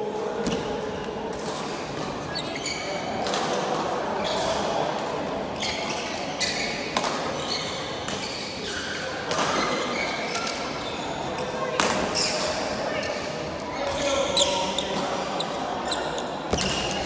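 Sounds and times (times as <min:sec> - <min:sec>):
background chatter: 0:00.0 - 0:17.0.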